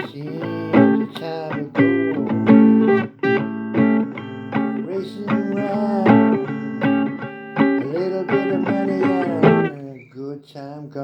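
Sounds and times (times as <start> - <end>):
blues guitar playing: 0.0 - 10.0.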